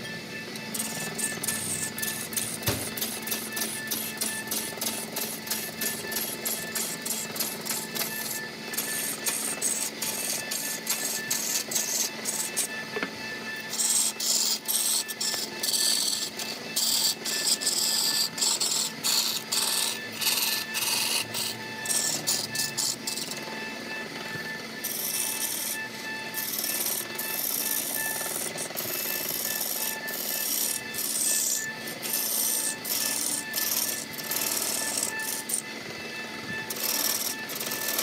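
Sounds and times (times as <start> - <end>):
steady lathe hum: 0.0 - 38.0
lathe tool scraping wood: 0.5 - 38.0.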